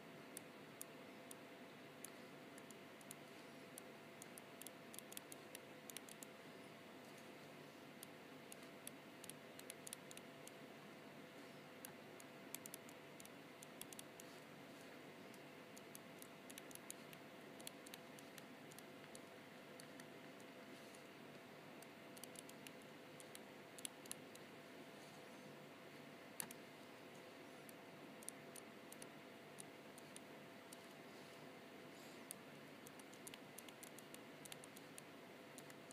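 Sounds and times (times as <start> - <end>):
faint steady hiss and hum: 0.0 - 35.9.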